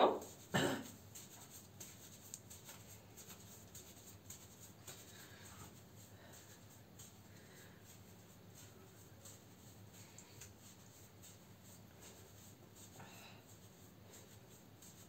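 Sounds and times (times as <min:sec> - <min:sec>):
hair pick rustling through hair: 0:00.1 - 0:15.0.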